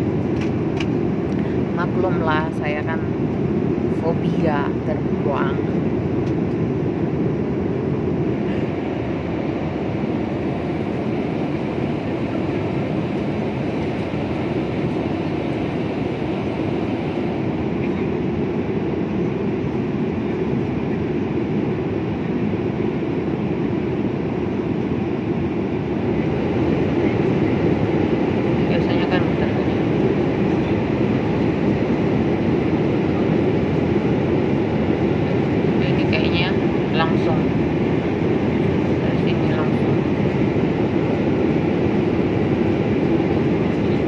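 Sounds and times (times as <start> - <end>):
airliner engines and airflow drone: 0.0 - 44.0.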